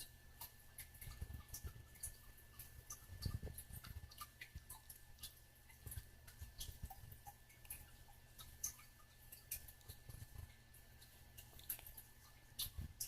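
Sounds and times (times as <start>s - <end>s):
beak clicks and ticks: 0.0s - 13.0s.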